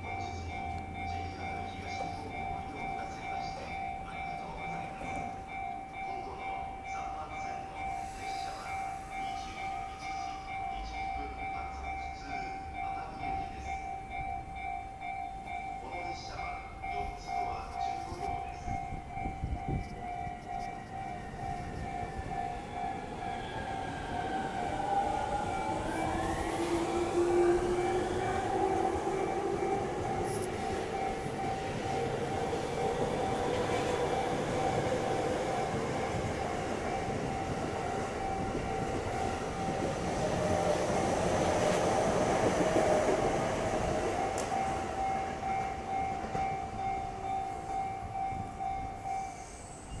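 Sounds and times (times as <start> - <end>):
electric trains passing: 0.0 - 50.0
level crossing alarm ringing: 0.0 - 50.0.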